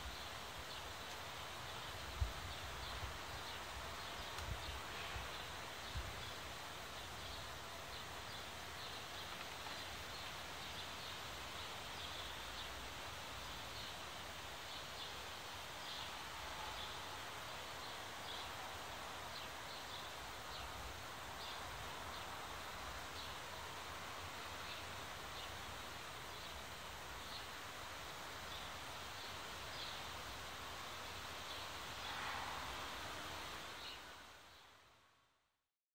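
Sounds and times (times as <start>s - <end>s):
steady background hiss: 0.0s - 35.6s.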